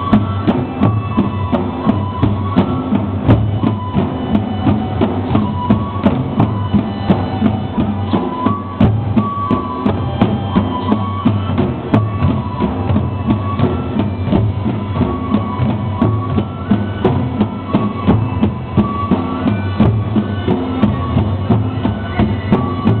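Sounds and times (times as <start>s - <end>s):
taiko drums beating: 0.0s - 23.0s.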